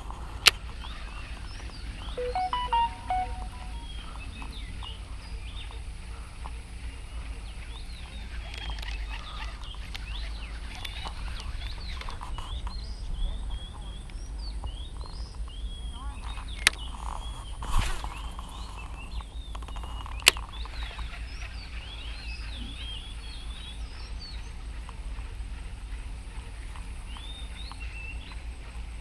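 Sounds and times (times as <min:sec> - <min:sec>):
small birds chirping: 0:00.0 - 0:24.7, 0:26.8 - 0:29.0.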